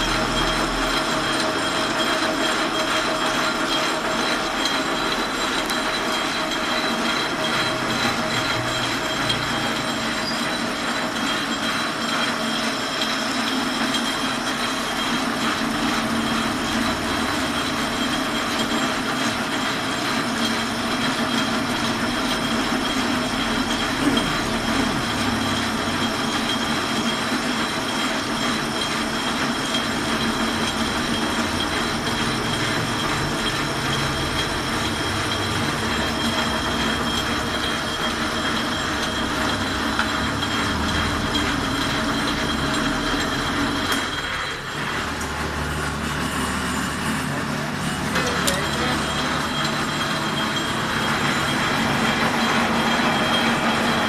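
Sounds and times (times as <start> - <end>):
lathe gear whine: 0.0 - 54.0
metallic lathe running noise: 0.0 - 54.0.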